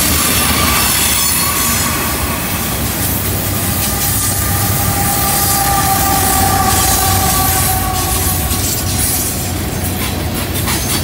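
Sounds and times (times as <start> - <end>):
diesel locomotive: 0.0 - 11.0
low train rumble: 0.0 - 11.0
train wheels squealing on rail: 0.0 - 11.0.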